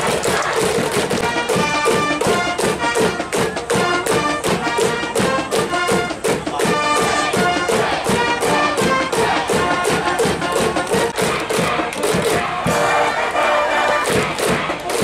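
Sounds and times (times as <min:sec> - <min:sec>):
steady drum beat: 0:00.0 - 0:13.0, 0:14.0 - 0:15.0
brass band playing: 0:00.0 - 0:15.0.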